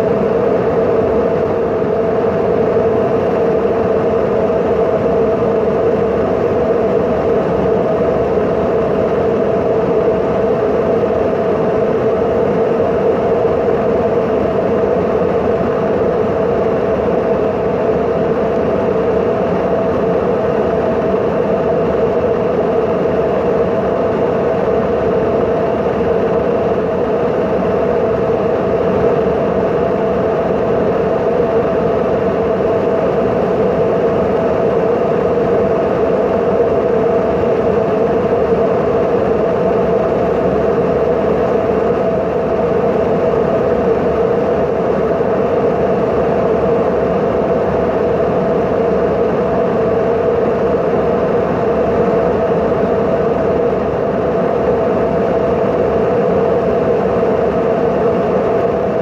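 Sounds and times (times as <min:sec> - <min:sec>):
jet engine drone in cabin: 0:00.0 - 0:59.0.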